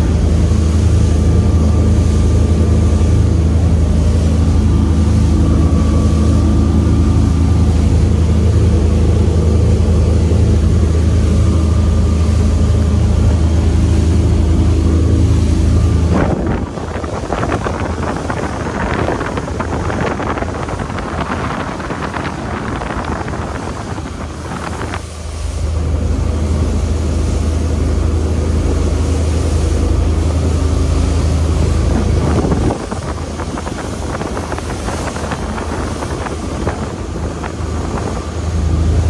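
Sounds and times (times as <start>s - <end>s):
boat engines droning: 0.0s - 39.0s
wind and water rushing past hull: 0.0s - 39.0s
wind buffeting microphone: 0.0s - 39.0s.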